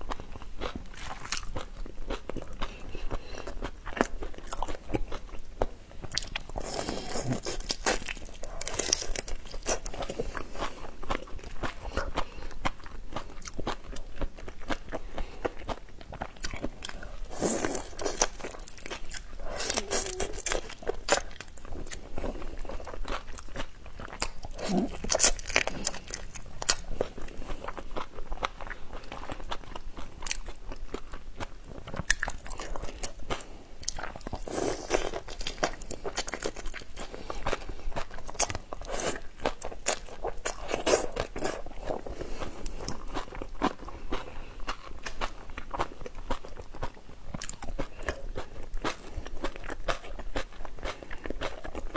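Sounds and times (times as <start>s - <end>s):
crunching and chewing shrimp: 0.0s - 51.9s.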